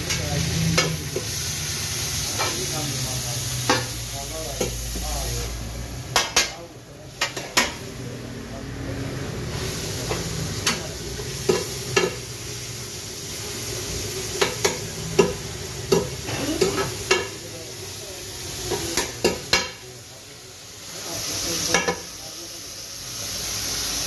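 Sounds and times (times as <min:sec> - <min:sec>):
beef sizzling in a pan: 0:00.0 - 0:06.5, 0:09.4 - 0:24.0.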